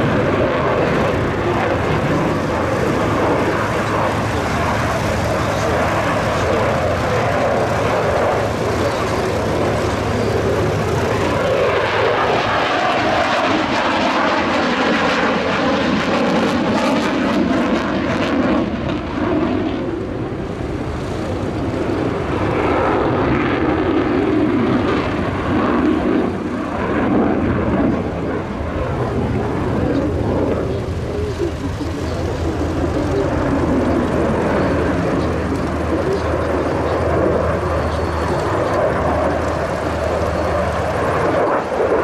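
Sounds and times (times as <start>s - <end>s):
jet engine roaring: 0.0s - 42.0s.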